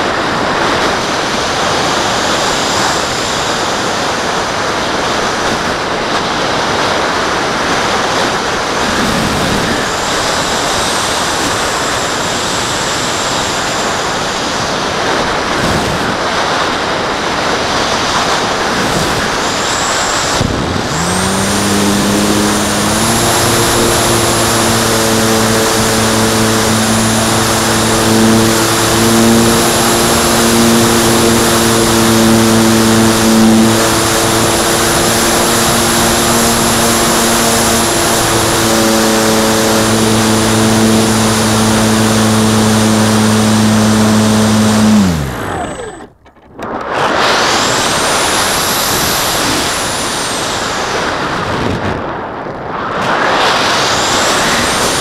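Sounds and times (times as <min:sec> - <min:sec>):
propeller motor droning whine: 0:00.0 - 0:51.7, 0:53.0 - 0:55.0
air rushing past glider: 0:00.0 - 0:55.0.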